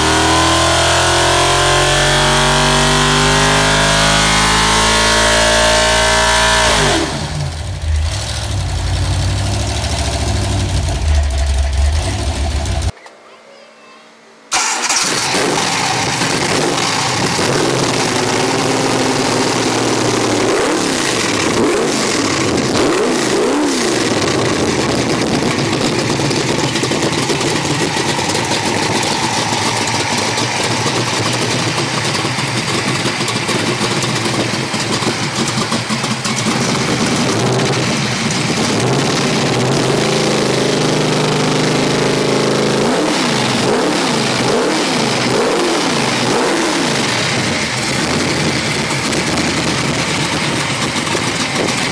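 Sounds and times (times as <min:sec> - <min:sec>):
engine revving and idling: 0:00.0 - 0:12.9, 0:14.5 - 0:51.9.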